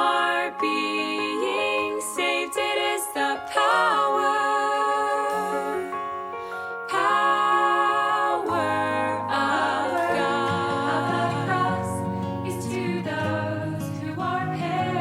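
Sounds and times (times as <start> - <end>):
worship song singing: 0.0 - 15.0.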